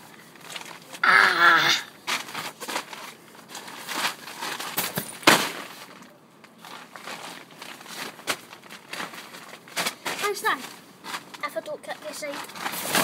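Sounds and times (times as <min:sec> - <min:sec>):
tent nylon rustling and crinkling: 0:00.0 - 0:01.0, 0:02.0 - 0:13.0.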